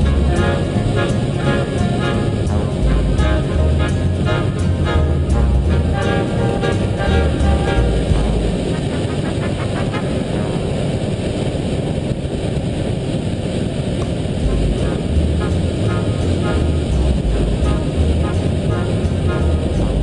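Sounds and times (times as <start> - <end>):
aircraft engines running loud: 0.0 - 20.0.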